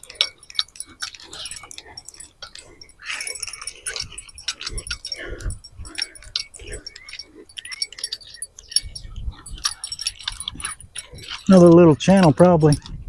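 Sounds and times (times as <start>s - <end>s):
fishing reel clicking and jingling: 0.0s - 13.0s.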